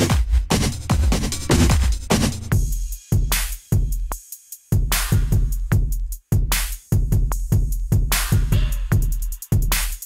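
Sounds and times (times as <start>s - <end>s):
electronic drum beat music: 0.0s - 10.0s.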